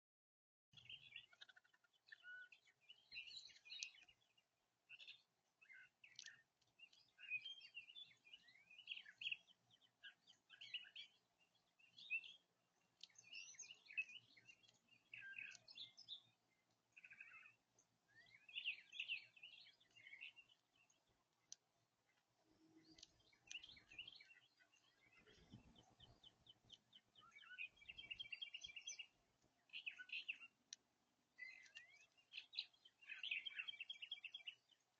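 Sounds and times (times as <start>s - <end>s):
small birds chirping: 0.7s - 34.9s.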